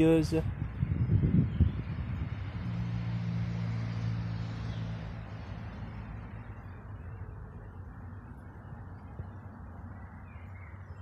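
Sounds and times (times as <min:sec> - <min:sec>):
engine hum: 0:00.0 - 0:11.0
vehicle passing rush: 0:00.0 - 0:11.0.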